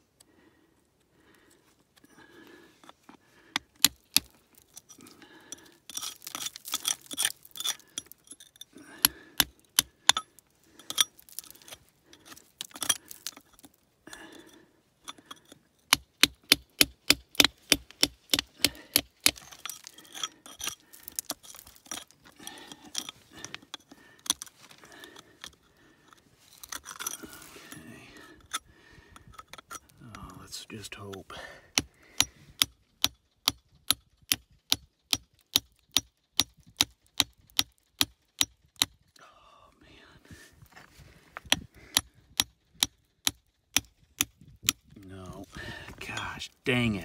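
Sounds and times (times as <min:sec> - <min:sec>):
chisel scraping on rock: 0:02.8 - 0:13.8, 0:14.4 - 0:28.6, 0:29.2 - 0:38.9, 0:41.4 - 0:47.0.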